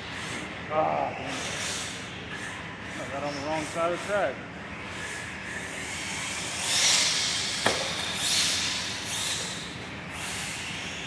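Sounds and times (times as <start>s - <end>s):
rc cars hissing past: 1.2s - 4.2s, 4.8s - 11.0s.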